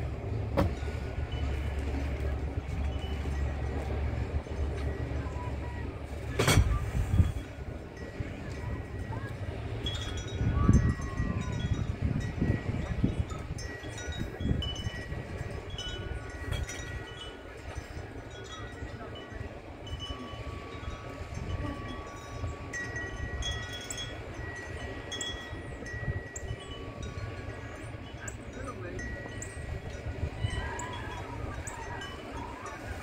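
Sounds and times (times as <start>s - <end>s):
low wind rumble on microphone: 0.0s - 33.0s
wind chimes ringing: 0.2s - 33.0s.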